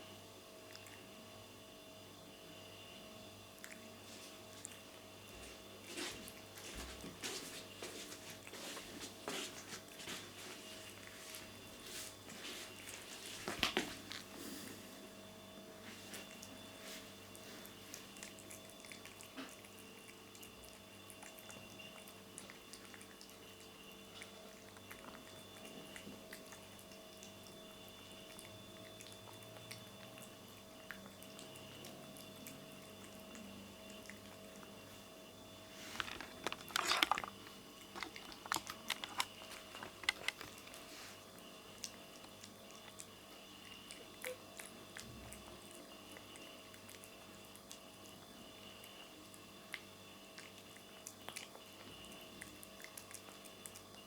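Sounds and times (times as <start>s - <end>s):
cat chewing food: 0.5s - 1.9s, 2.5s - 54.0s.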